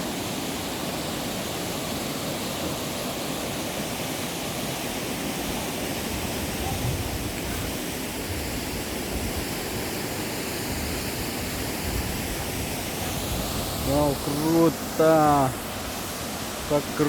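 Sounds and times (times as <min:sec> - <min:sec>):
rushing falling water: 0:00.0 - 0:17.0.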